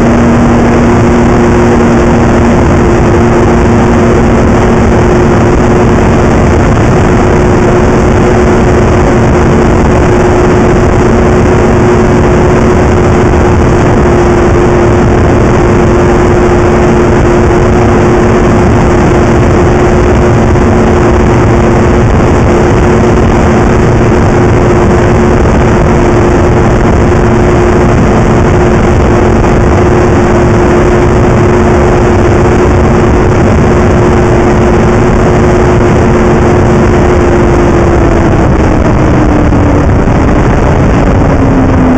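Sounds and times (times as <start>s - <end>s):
rushing noise: 0.0s - 41.9s
snowmobile engine drone: 0.0s - 41.9s.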